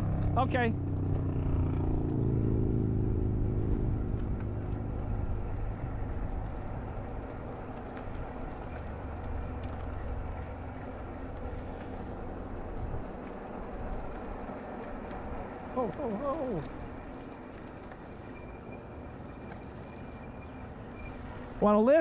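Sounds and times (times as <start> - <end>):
car engine running: 2.0 - 21.5.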